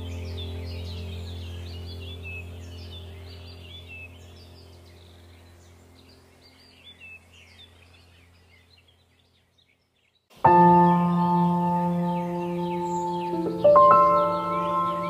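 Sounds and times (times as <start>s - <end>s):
low music drone: 0.0s - 8.5s, 10.4s - 15.0s
birds chirping: 0.0s - 15.0s.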